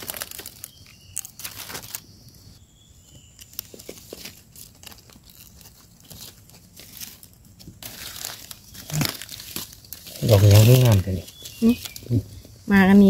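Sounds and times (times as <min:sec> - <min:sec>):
dry leaves rustling: 0:00.0 - 0:02.2, 0:03.0 - 0:13.0.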